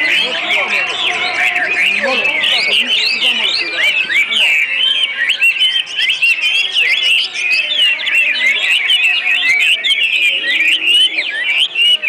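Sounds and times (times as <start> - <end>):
small birds chirping in chorus: 0.0 - 12.0.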